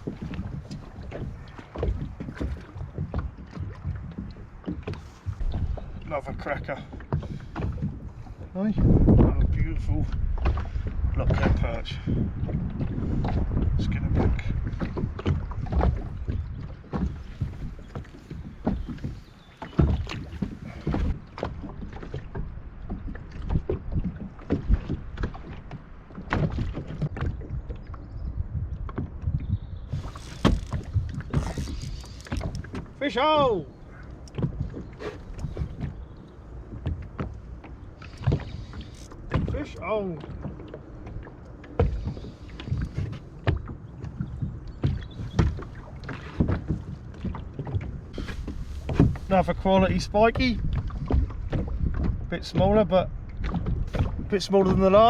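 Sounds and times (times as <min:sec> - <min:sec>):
knocks in plastic boat: 0:00.0 - 0:27.6, 0:28.8 - 0:55.0.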